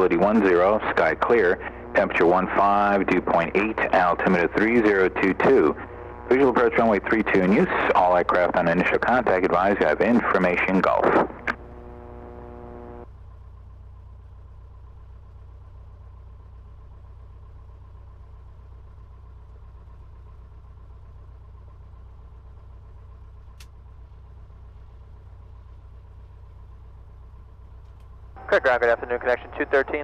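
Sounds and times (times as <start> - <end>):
aircraft piston engine idling: 0.0 - 30.0.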